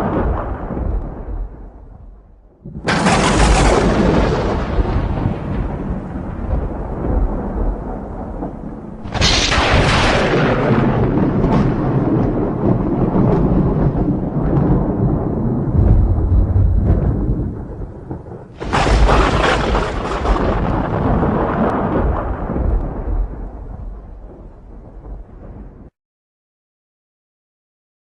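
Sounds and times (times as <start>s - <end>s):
thunder rolling: 0.0s - 25.9s.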